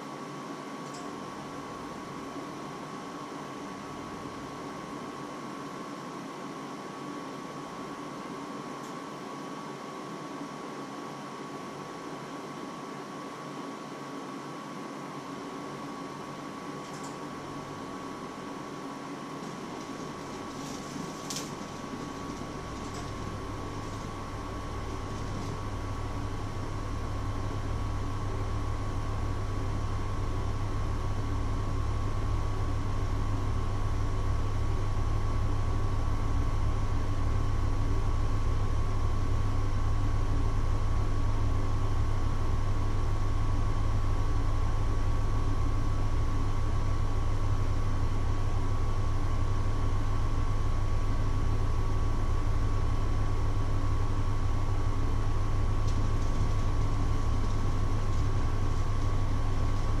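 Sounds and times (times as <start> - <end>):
low machine hum: 0.0 - 60.0.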